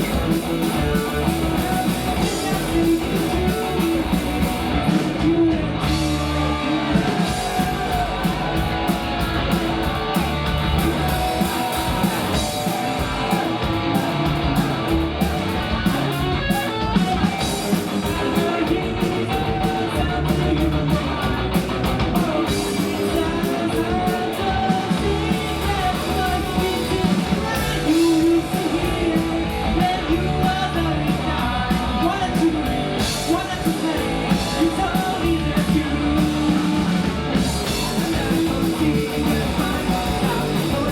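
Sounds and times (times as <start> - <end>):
rock song with singing: 0.0 - 40.9.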